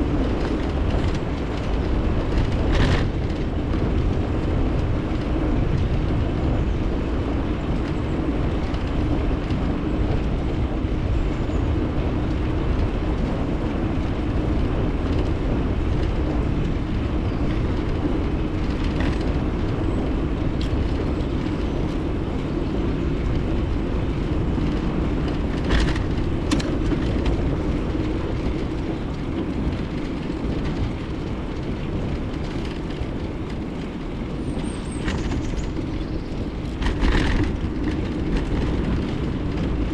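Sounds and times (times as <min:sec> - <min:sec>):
bicycle tyre rumble: 0:00.0 - 0:39.9
wind on microphone: 0:00.0 - 0:39.9.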